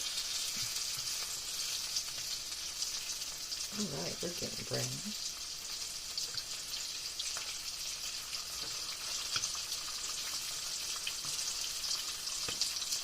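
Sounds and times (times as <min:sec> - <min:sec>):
tomatoes sizzling in pan: 0:00.0 - 0:13.0.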